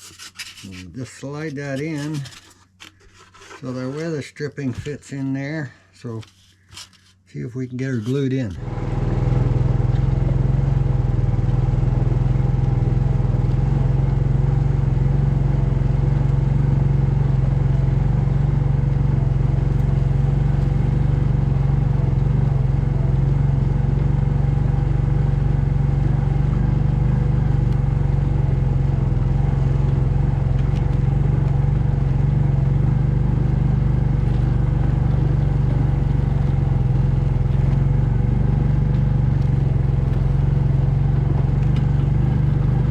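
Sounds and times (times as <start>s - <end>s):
engine running steadily: 8.5s - 42.9s.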